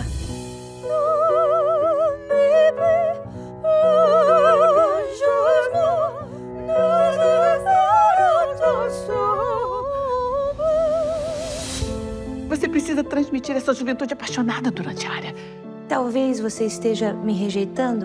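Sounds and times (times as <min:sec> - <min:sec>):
operatic soprano singing: 0:00.0 - 0:18.0
piano chords: 0:00.0 - 0:18.0.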